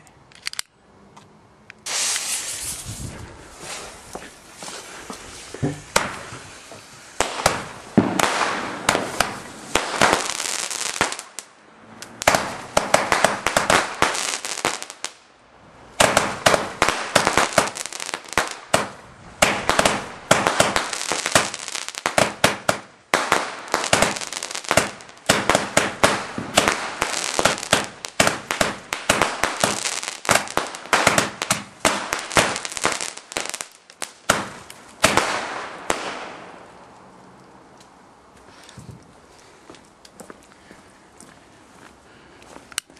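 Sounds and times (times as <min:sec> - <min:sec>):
fireworks crackling and popping: 0:01.8 - 0:15.3, 0:15.9 - 0:39.4.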